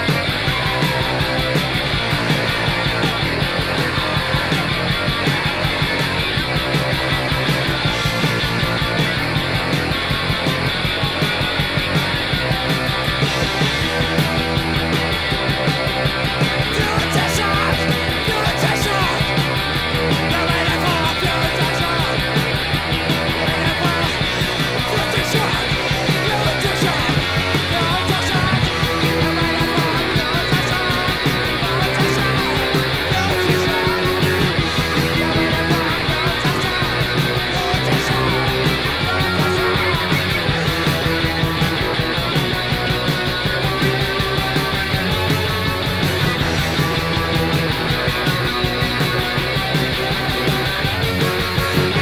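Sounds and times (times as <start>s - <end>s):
noise rock band playing: 0.0s - 52.0s.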